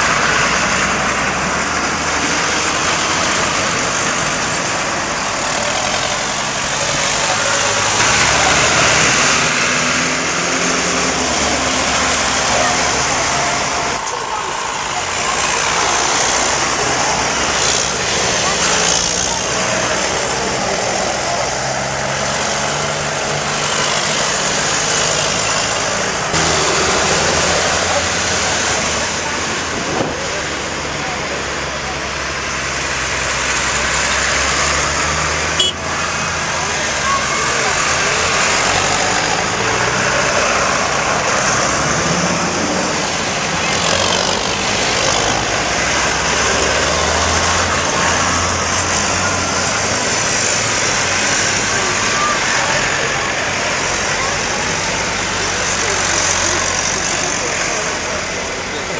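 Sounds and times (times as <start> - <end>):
tractor engines running: 0.0 - 58.9.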